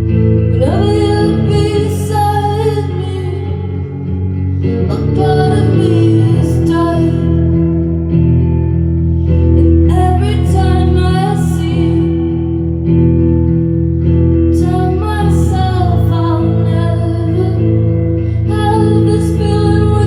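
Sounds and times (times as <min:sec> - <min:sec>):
guitar chords: 0:00.0 - 0:20.0
woman singing: 0:00.4 - 0:08.0, 0:09.6 - 0:12.8, 0:14.5 - 0:20.0.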